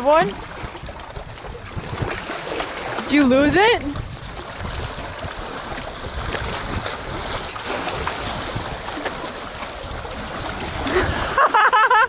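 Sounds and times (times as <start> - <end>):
wind buffeting microphone: 0.0 - 11.6
waves washing against rocks: 0.0 - 12.0.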